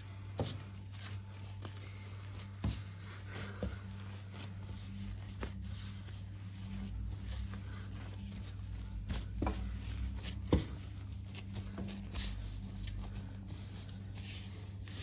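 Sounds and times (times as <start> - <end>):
hands kneading dough: 0.0 - 15.0
steady low hum: 0.0 - 15.0.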